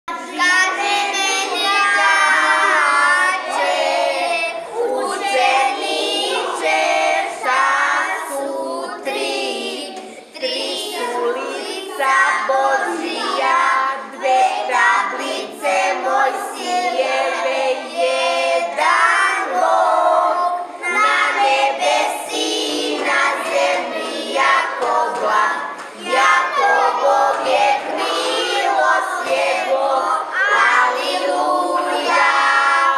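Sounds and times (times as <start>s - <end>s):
children singing: 0.1s - 32.9s.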